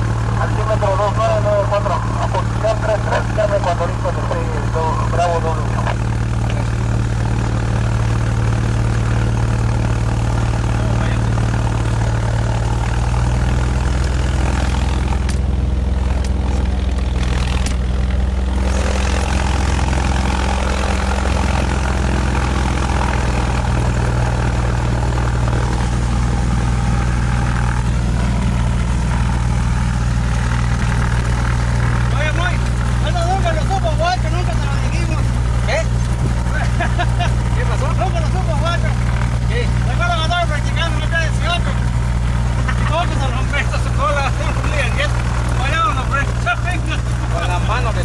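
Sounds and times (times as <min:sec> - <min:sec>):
airplane engine and propeller drone: 0:00.0 - 0:48.0.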